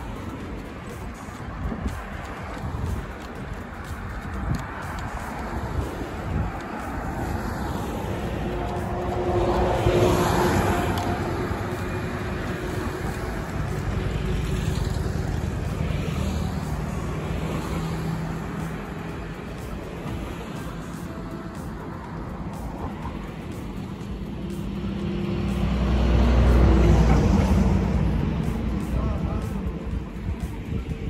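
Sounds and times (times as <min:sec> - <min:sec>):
traffic rumble: 0:00.0 - 0:31.0
vehicle passing: 0:00.0 - 0:31.0.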